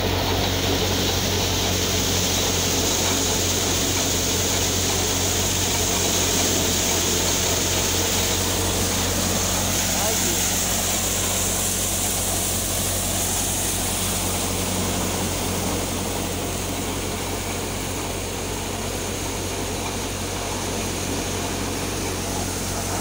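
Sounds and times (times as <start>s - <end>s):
thresher machine droning: 0.0s - 23.0s.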